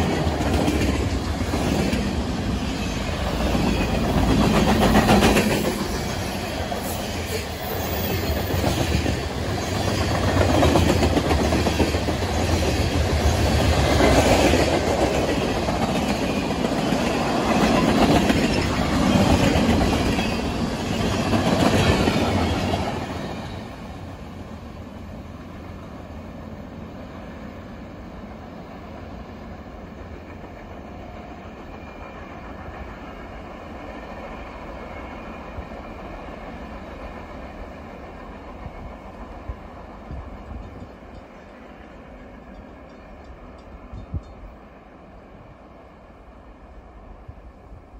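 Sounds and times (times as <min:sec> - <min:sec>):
train wheels clattering on rails: 0:00.0 - 0:23.8, 0:29.8 - 0:44.8.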